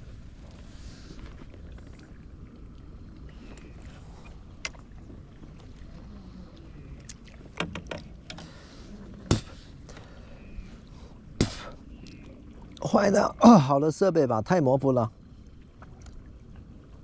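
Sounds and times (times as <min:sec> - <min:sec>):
small boat engine rumble: 0:00.0 - 0:17.0.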